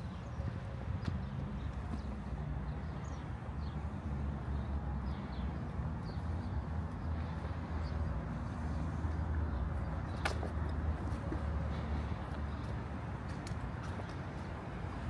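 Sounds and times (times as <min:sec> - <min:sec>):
street low rumble: 0:00.0 - 0:15.0.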